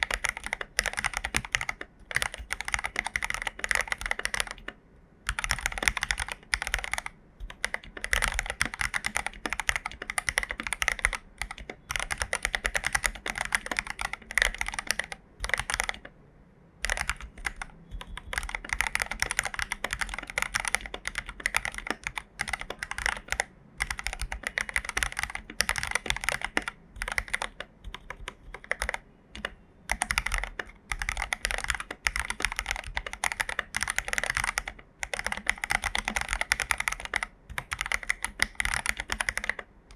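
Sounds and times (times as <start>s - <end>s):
mechanical keyboard typing: 0.0s - 16.2s, 16.8s - 39.9s.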